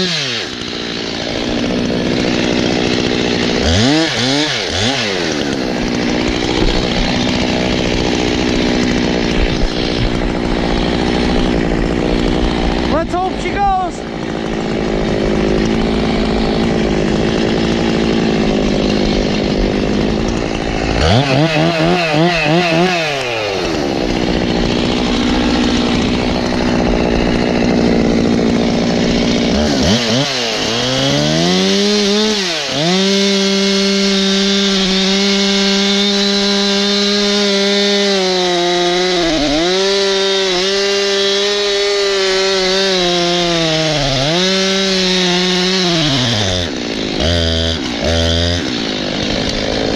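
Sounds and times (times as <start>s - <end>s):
chainsaw cutting into tree: 0.0s - 49.9s.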